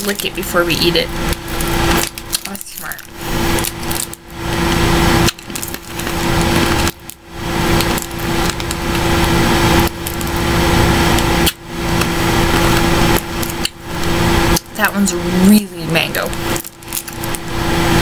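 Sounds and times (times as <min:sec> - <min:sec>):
steady low hum: 0:00.0 - 0:18.0
crunching hard candy: 0:01.3 - 0:14.8, 0:16.2 - 0:17.5.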